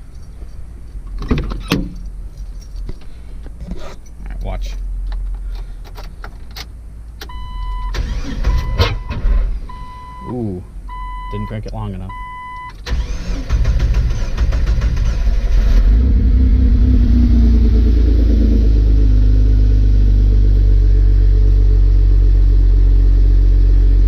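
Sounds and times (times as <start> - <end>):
car engine idling: 4.4 - 24.0.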